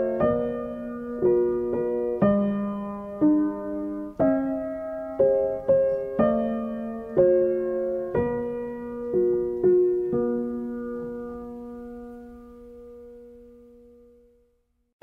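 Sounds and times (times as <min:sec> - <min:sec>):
slow piano chords: 0:00.0 - 0:14.6.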